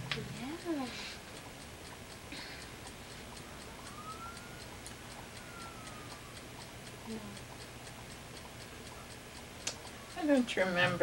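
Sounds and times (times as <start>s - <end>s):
faint ticking: 0.0s - 11.0s.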